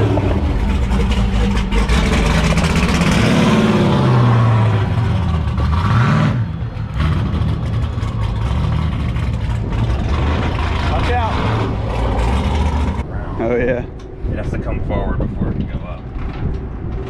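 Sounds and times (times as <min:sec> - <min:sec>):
engine running and revving: 0:00.0 - 0:14.8.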